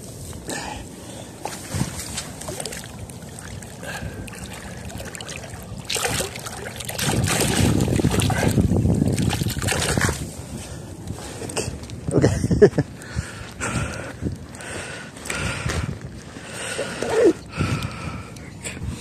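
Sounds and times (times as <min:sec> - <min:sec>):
water splashing and sloshing: 0:00.0 - 0:15.3.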